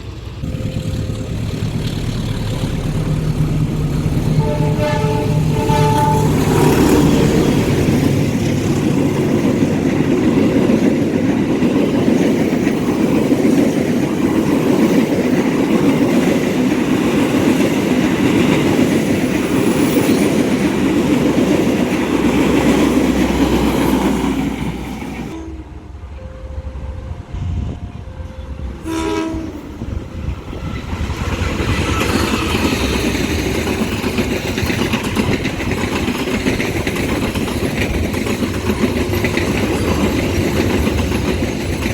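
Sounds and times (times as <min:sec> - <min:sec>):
train wheels clattering over rails: 0:00.4 - 0:25.4, 0:29.8 - 0:41.9.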